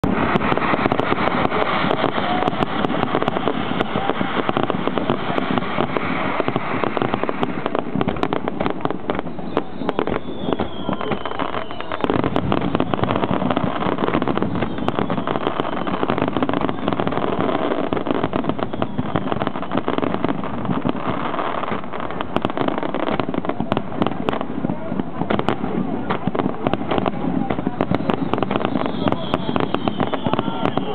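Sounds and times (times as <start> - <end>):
fireworks bursting and crackling: 0.0 - 30.9.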